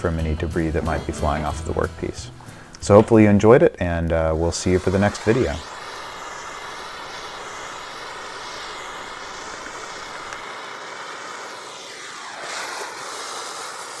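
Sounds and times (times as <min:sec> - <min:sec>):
blowtorch flame hissing: 0:02.4 - 0:14.0.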